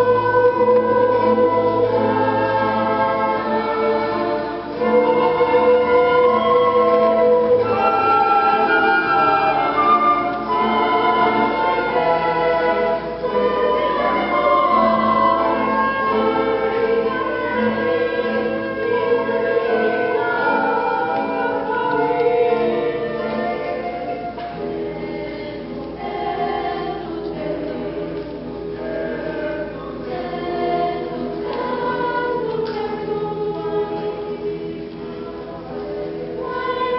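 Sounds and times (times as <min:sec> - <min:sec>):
orchestral accompaniment: 0:00.0 - 0:32.6
choir singing: 0:00.0 - 0:36.9.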